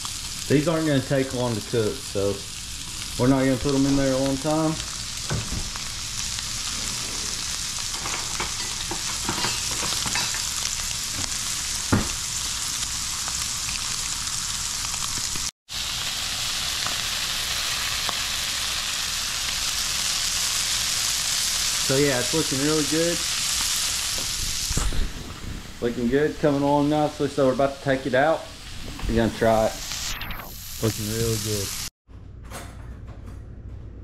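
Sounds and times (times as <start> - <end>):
fish sizzling in a pan: 0.0 - 31.9.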